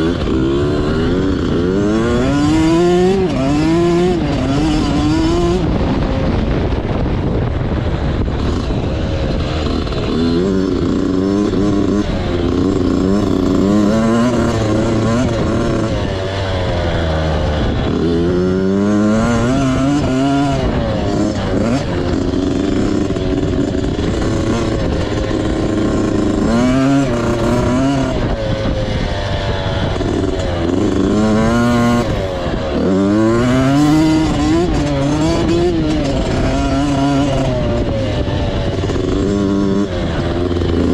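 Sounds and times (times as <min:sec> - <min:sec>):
motorbike engine revving: 0:00.0 - 0:40.9.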